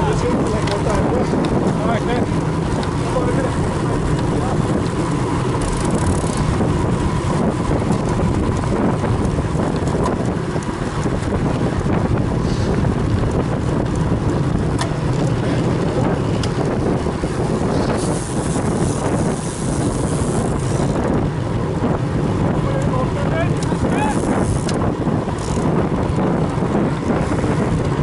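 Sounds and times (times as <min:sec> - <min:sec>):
tyres rumbling on asphalt: 0:00.0 - 0:28.0
wind buffeting microphone: 0:00.0 - 0:28.0.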